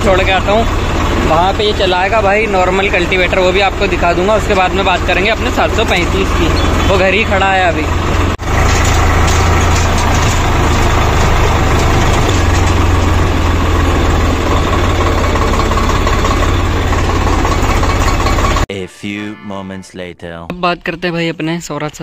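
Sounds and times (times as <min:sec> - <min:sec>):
tractor diesel engine running: 0:00.0 - 0:18.7.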